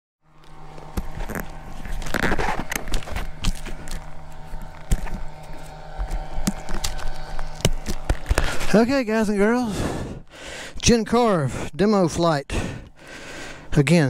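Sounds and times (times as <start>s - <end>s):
faint steady hum: 0.2s - 14.0s.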